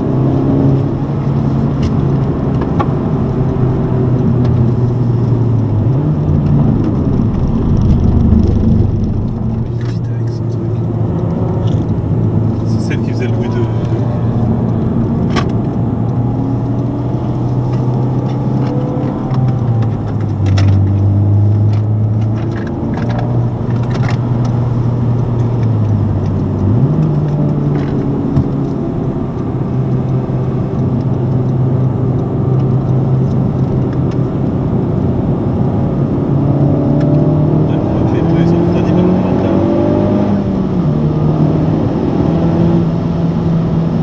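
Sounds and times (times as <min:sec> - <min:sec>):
car engine revving: 0:00.0 - 0:44.0
tyre and road noise: 0:00.0 - 0:44.0.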